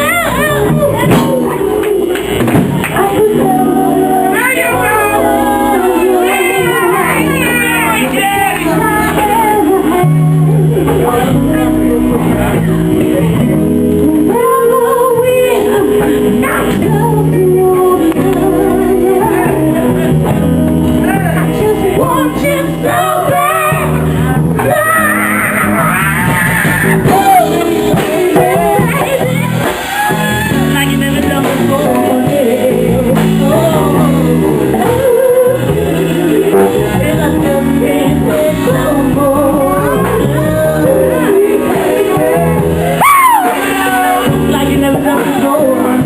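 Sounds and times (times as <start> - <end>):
bass line: 0.0 - 46.0
guitar: 0.0 - 46.0
live band playing: 0.0 - 46.0
person singing with vibrato: 0.0 - 46.0.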